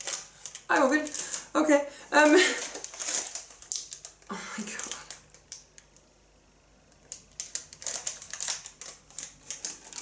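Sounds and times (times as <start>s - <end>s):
cellophane crinkling: 0.0s - 6.0s, 7.0s - 10.0s.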